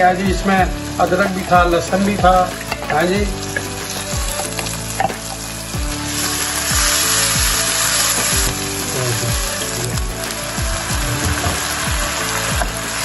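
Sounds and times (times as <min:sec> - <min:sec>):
background music with steady beat: 0:00.0 - 0:13.0
paste sizzling in hot oil: 0:00.0 - 0:13.0.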